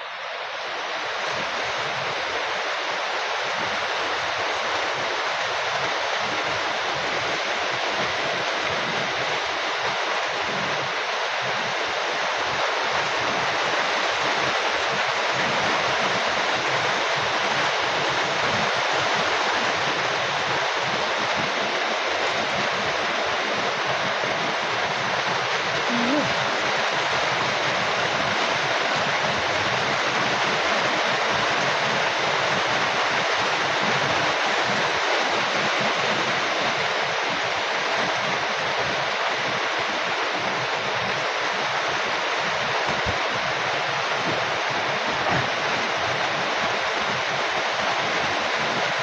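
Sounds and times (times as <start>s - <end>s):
heavy rain hissing: 0.0s - 49.0s
patter of raindrops: 0.0s - 49.0s.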